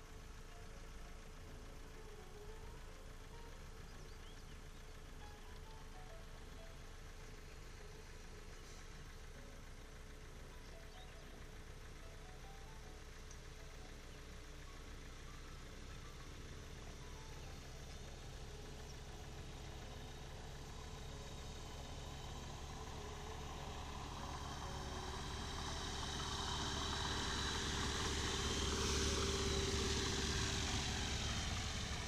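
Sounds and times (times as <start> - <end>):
small plane engine and propeller: 0.0 - 32.0.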